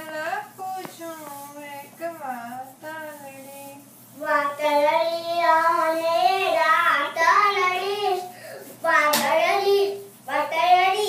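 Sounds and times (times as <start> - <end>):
boy singing devotional song: 0.0 - 11.0.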